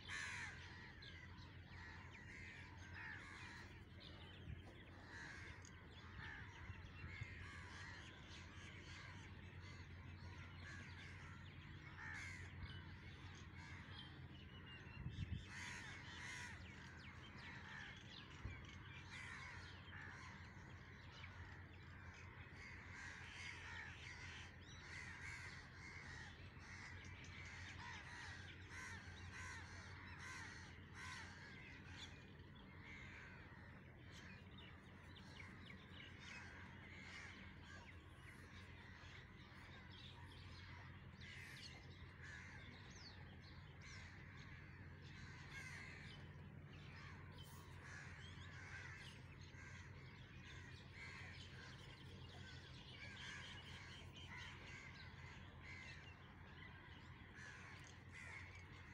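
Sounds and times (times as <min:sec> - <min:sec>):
crows cawing: 0:00.0 - 0:14.4, 0:15.4 - 0:58.9
steady low hum: 0:00.0 - 0:58.9.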